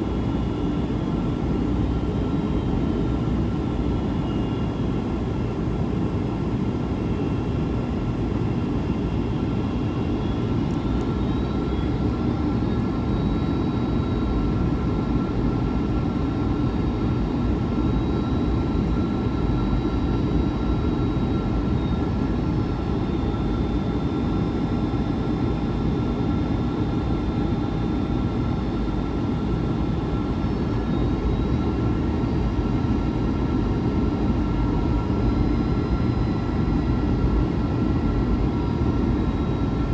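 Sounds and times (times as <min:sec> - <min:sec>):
faint engine whine: 0:00.0 - 0:39.9.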